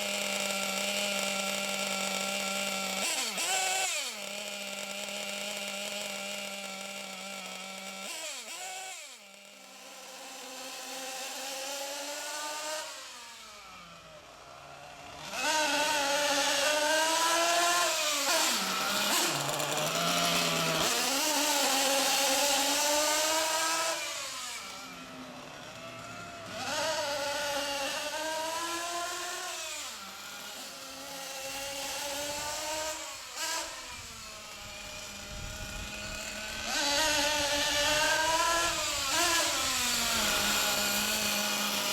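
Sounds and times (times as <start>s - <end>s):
small model engine revving: 0.0s - 41.9s.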